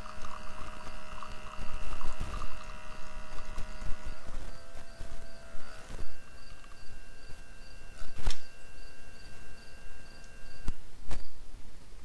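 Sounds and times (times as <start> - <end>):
espresso maker pump humming: 0.0 - 10.8.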